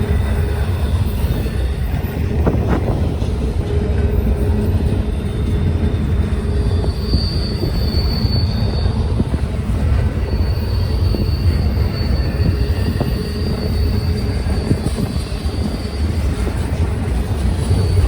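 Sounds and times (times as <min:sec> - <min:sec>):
high wheel squeal: 0:00.0 - 0:18.0
train rumbling past: 0:00.0 - 0:18.0.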